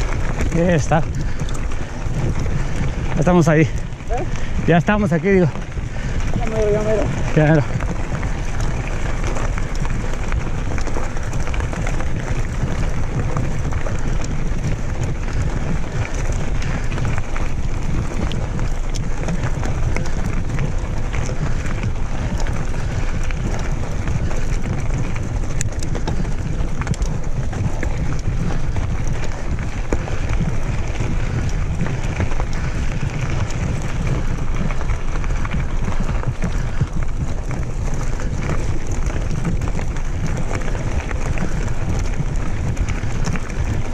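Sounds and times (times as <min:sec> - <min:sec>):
small ticks and crackles: 0:00.0 - 0:43.9
wind buffeting microphone: 0:00.0 - 0:43.9.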